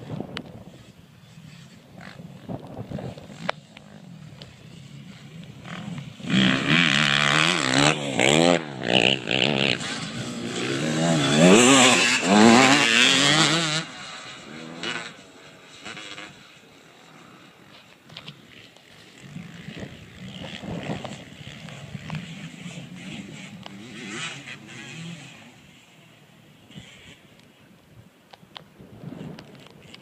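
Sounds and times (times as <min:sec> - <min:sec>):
faint wind noise: 0:00.0 - 0:30.0
dirt bike engine revving: 0:01.5 - 0:27.2.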